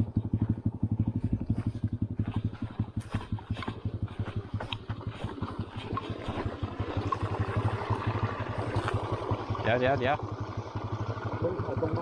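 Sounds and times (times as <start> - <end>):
motorcycle engine putter: 0.0 - 12.0
motorcycle rattles and knocks: 0.0 - 12.0.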